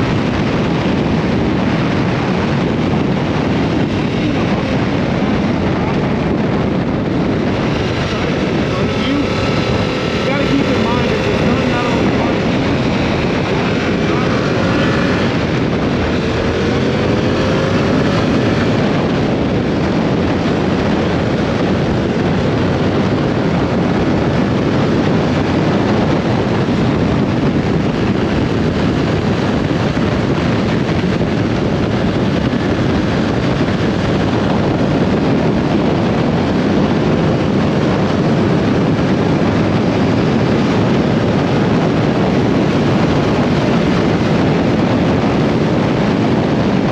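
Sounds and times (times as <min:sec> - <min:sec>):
motorcycle engine: 0:00.0 - 0:46.9
wind rushing over microphone: 0:00.0 - 0:46.9.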